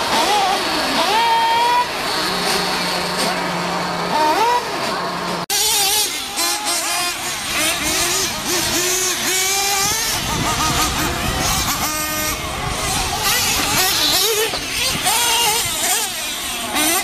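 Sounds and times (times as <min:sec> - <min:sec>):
small engines revving: 0:00.0 - 0:17.0.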